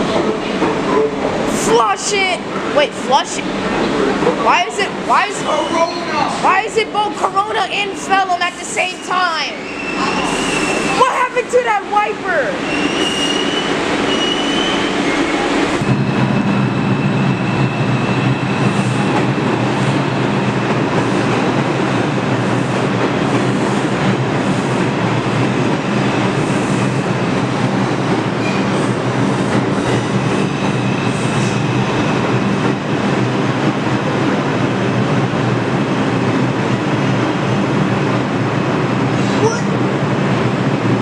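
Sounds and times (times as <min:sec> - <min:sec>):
subway train rumbling and rattling: 0:00.0 - 0:41.0.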